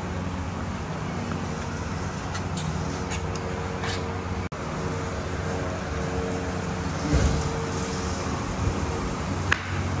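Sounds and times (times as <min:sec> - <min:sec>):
low mechanical hum with tones: 0:00.0 - 0:10.0.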